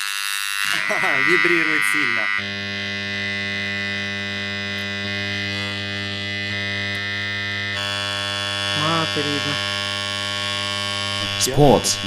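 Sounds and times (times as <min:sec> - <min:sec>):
transformer electrical hum: 0:00.6 - 0:12.0.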